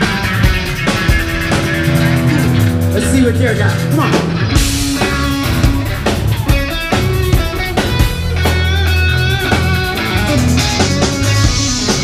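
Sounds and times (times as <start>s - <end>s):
bass guitar: 0.0s - 12.0s
drum kit beat: 0.0s - 12.0s
electric guitar: 0.0s - 12.0s.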